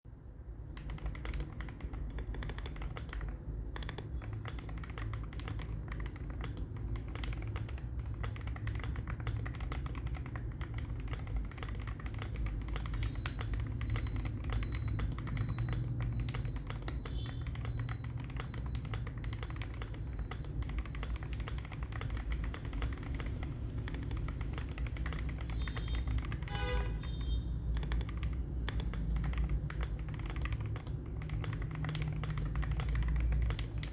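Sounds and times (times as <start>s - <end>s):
mechanical keyboard typing: 0.6s - 33.9s.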